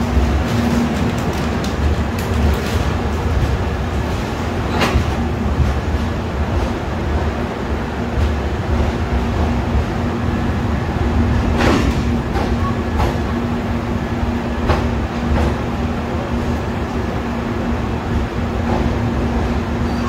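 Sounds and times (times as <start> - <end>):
sharp clicks of train: 0.0 - 10.0, 11.1 - 13.7, 14.3 - 17.1, 18.0 - 20.0
train rumbling slowly: 0.0 - 20.0.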